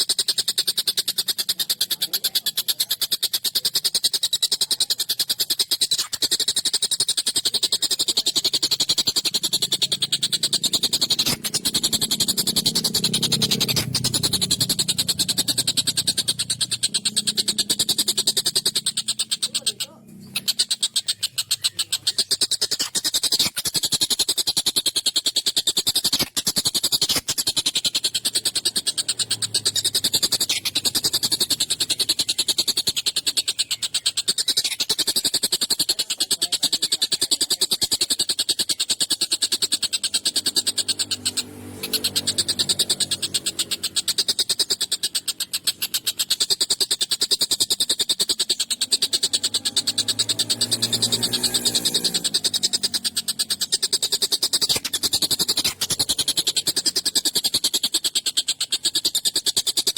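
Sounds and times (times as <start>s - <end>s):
kingfisher chattering calls: 0.0s - 59.9s.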